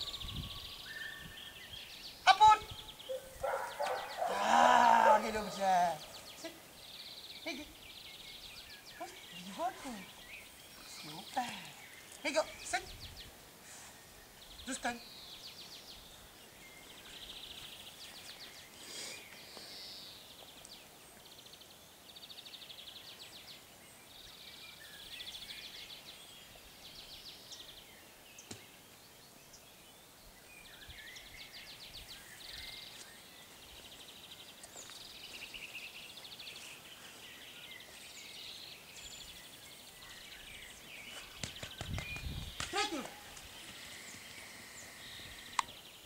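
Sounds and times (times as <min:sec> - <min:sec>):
songbirds trilling: 0:00.0 - 0:46.0.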